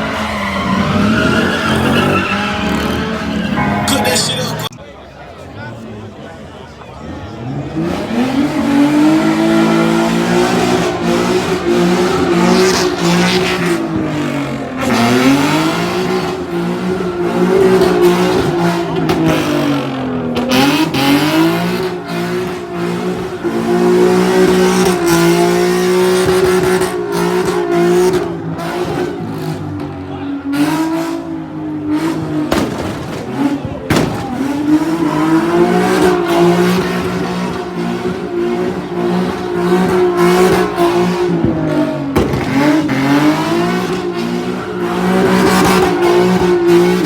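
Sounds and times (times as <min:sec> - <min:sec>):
car engine at high revs: 0:07.1 - 0:47.0.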